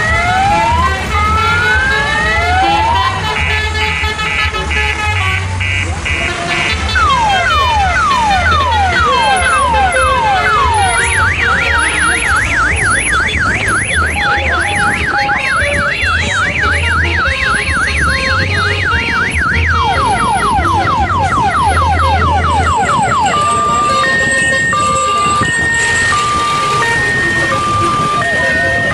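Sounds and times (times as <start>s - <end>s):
electronic siren wailing: 0.0s - 4.8s, 5.6s - 28.9s.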